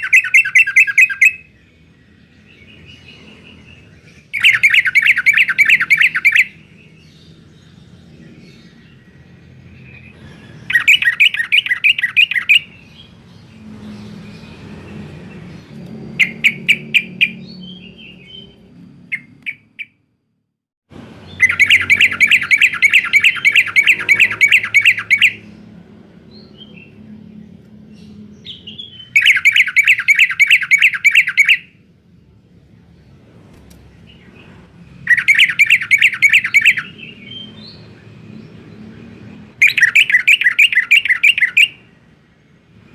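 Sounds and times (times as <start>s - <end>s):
bird singing in chattering bursts: 0.0s - 20.0s, 21.2s - 25.6s, 28.0s - 31.8s, 33.9s - 42.9s.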